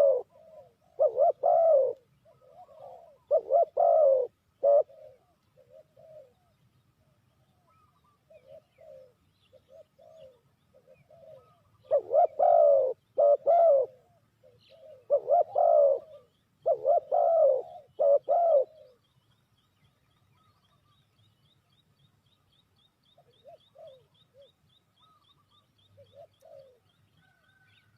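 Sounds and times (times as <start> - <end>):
dove cooing: 0.0 - 19.1, 23.2 - 27.9.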